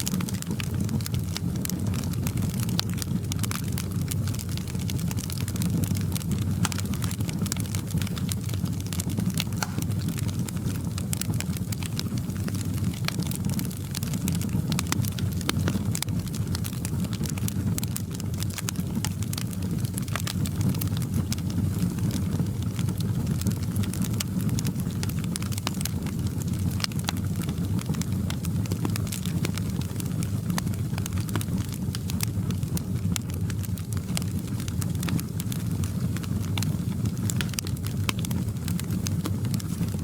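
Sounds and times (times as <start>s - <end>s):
rumble of flames: 0.0s - 40.0s
wood fire crackling: 0.0s - 40.0s.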